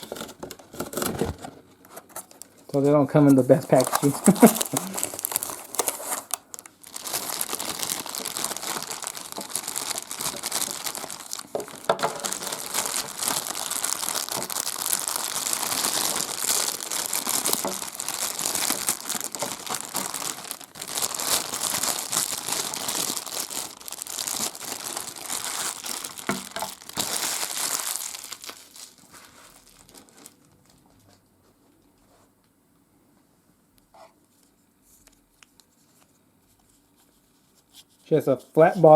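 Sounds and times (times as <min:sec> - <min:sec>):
plastic packaging crinkling: 0:00.0 - 0:31.2.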